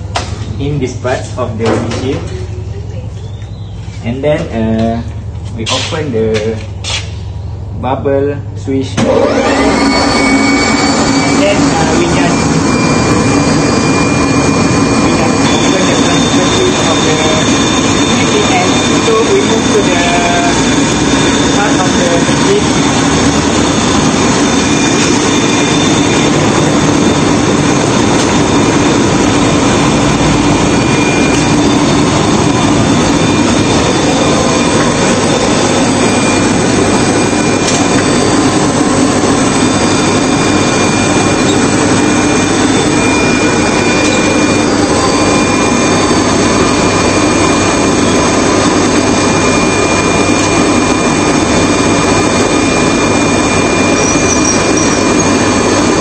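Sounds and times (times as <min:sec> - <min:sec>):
faint steady whines: 0:00.0 - 0:56.0
washing machine mechanical drone: 0:00.0 - 0:56.0.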